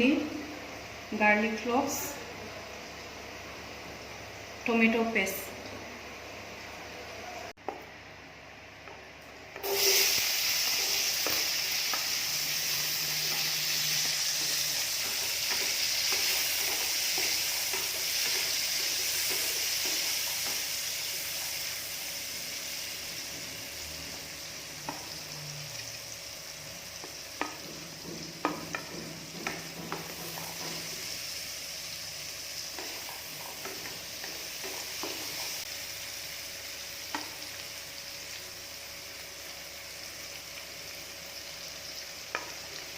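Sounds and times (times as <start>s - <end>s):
vegetables sizzling in oil: 0.0s - 7.0s, 8.4s - 42.9s.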